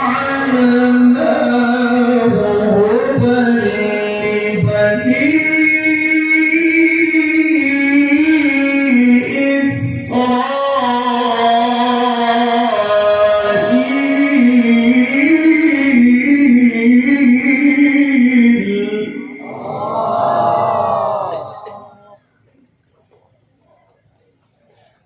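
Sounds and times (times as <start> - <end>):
man chanting melodically: 0.0 - 22.2.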